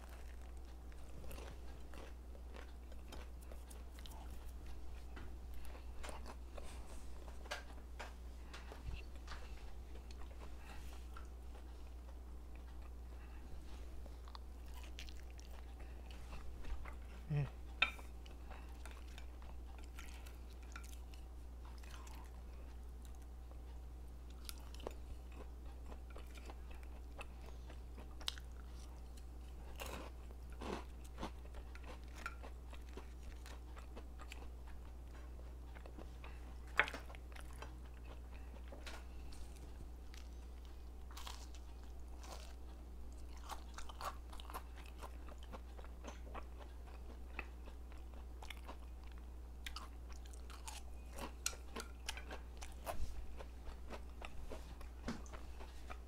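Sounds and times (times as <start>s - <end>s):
person chewing and biting food: 0.0s - 13.4s, 24.3s - 56.0s
steady low hum: 0.0s - 56.0s.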